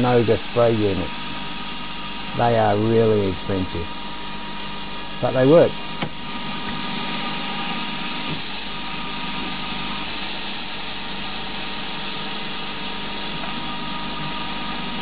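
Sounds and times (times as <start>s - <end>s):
coolant spray hiss: 0.0s - 15.0s
lathe spindle running: 0.0s - 15.0s.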